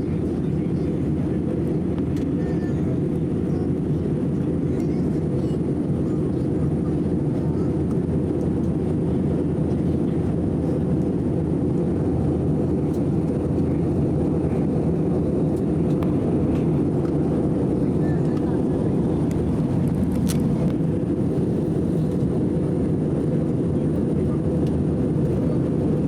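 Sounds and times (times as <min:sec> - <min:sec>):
airliner cabin roar: 0:00.0 - 0:26.0.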